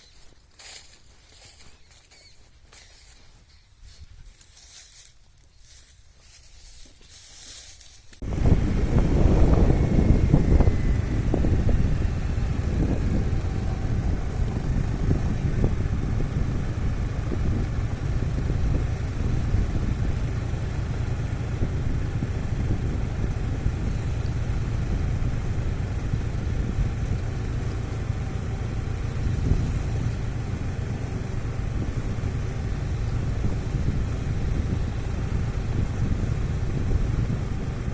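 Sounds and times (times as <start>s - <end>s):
vehicle engine rumbling: 0.0s - 37.9s.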